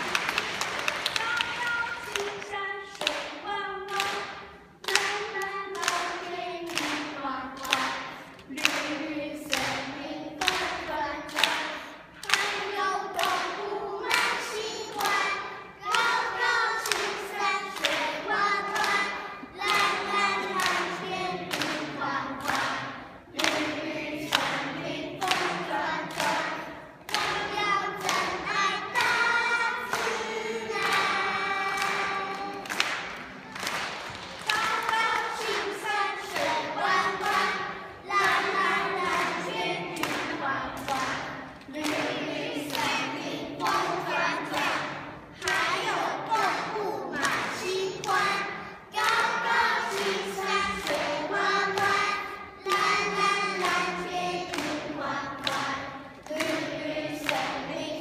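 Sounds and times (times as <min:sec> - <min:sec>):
claps and thumps beat: 0:00.0 - 0:57.7
children singing: 0:01.3 - 0:58.0.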